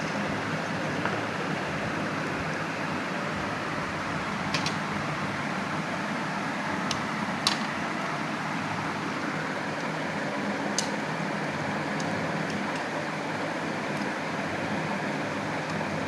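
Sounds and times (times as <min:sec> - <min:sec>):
fan hiss: 0:00.0 - 0:16.0.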